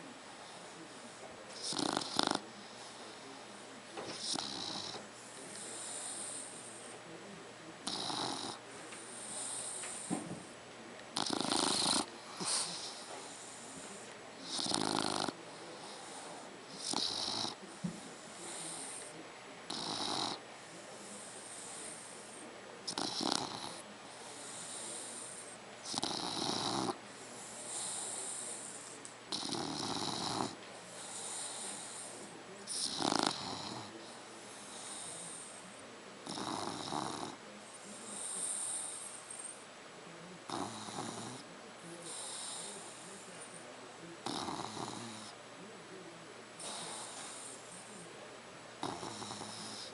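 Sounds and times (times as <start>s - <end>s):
puppy snoring: 0.0s - 7.0s, 7.8s - 39.7s, 40.4s - 43.6s, 44.2s - 45.4s, 46.6s - 48.1s, 48.8s - 49.9s
soft breaths: 0.0s - 49.9s.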